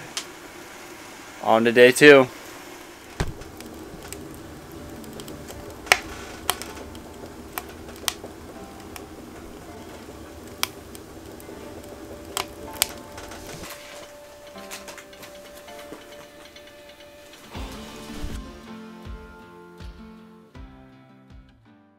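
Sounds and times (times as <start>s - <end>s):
wood fire crackling and popping: 0.0s - 18.5s
low steady fire rush: 0.0s - 18.6s.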